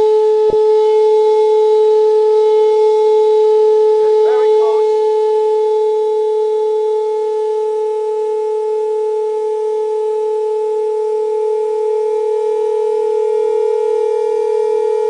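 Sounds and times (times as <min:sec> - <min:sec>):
loud pure tone from loudspeaker: 0:00.0 - 0:15.0.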